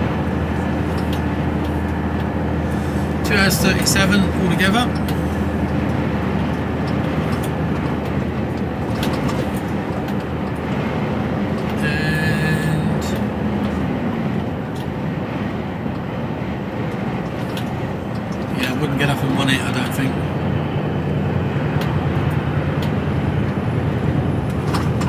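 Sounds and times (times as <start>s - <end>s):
diesel engine drone: 0.0s - 25.0s
road noise: 0.0s - 25.0s.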